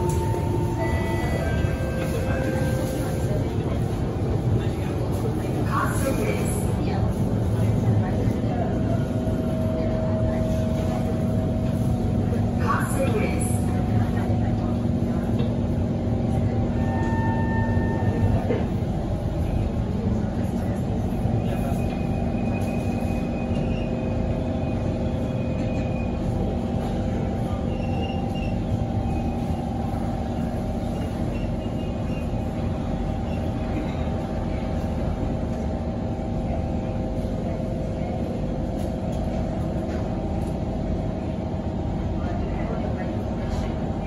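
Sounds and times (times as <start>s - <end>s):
train rolling noise: 0.0s - 44.0s.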